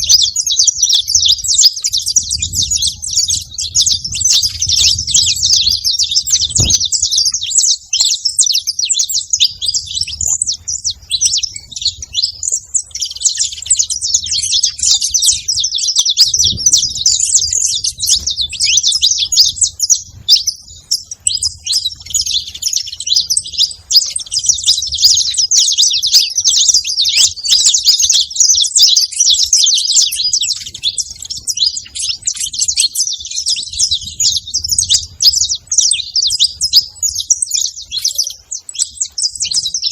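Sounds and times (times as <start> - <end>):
finches chirping and chattering: 0.0 - 39.9.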